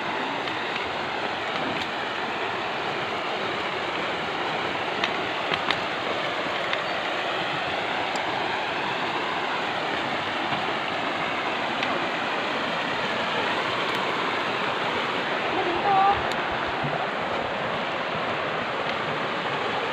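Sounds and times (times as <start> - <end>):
river rushing over rocks: 0.0 - 19.9.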